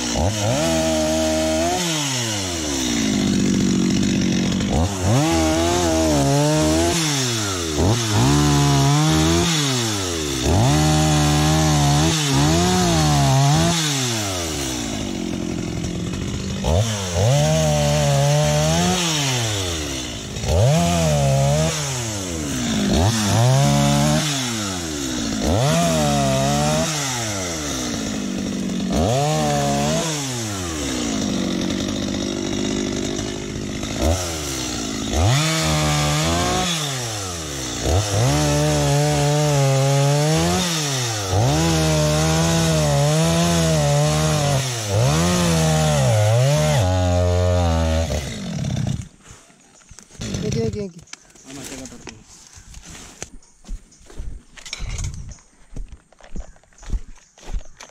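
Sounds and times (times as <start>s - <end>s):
chainsaw revving: 0.0s - 49.2s, 50.0s - 51.0s.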